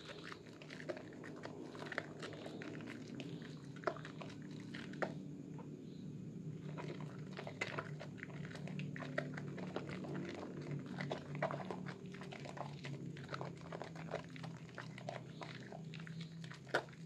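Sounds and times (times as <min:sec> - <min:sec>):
wet soap lather squishing: 0:00.0 - 0:05.3, 0:06.6 - 0:17.0
low steady hum: 0:00.0 - 0:17.0.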